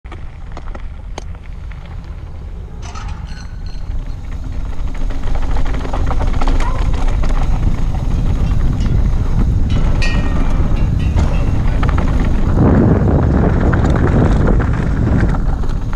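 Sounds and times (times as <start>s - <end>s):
bike rattling and clattering: 0.1s - 15.9s
wind buffeting microphone: 0.1s - 15.9s.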